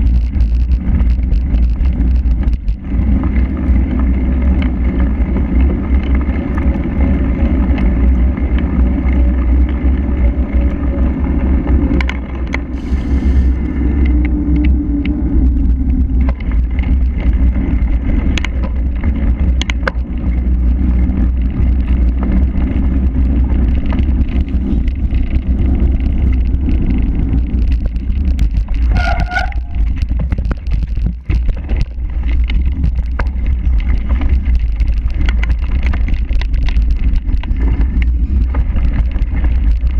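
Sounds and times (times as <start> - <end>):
bike clattering over rough ground: 0.0 - 39.9
wind rumble on microphone: 0.0 - 39.9.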